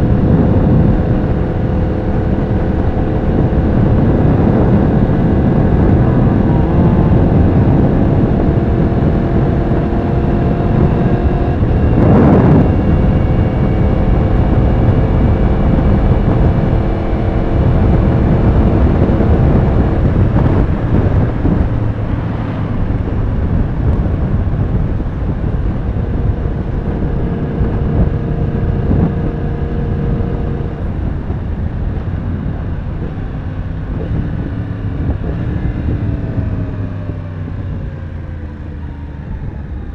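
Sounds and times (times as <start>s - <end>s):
motorcycle engine running: 0.0s - 38.8s
wind rush: 0.0s - 39.9s.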